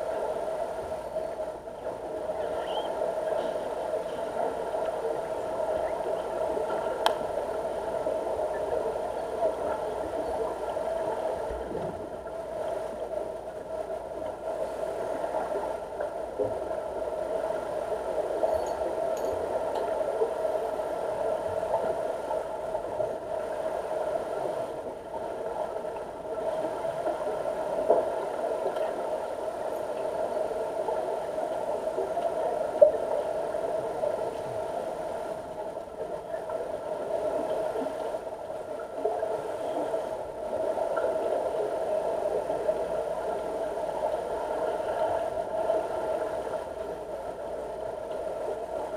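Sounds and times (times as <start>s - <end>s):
underwater mechanical hum: 0.0s - 48.9s.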